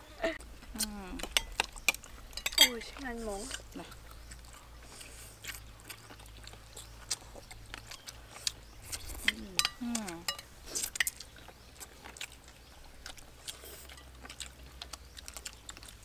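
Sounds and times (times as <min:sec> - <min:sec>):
mouth smacks and chewing: 0:00.5 - 0:16.0.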